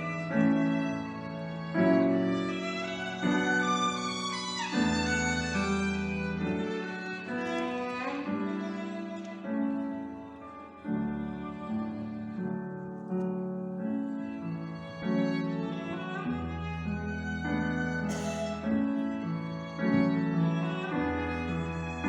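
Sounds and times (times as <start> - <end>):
violin playing long notes: 0.0 - 12.5, 14.1 - 22.0
piano chords: 0.0 - 22.0.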